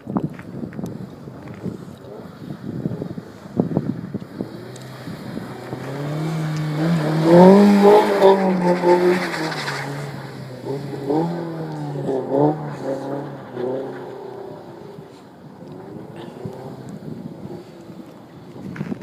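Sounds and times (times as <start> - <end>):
car engine revving: 1.4 - 18.3.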